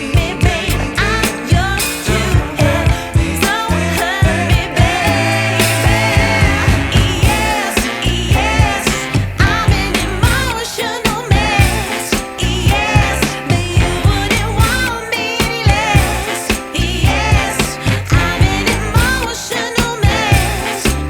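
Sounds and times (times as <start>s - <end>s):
woman singing pop music: 0.0s - 21.0s.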